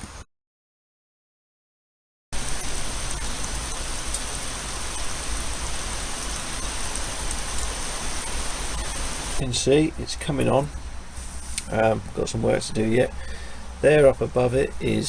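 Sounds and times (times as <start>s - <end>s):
steady noise hiss: 2.4s - 15.0s.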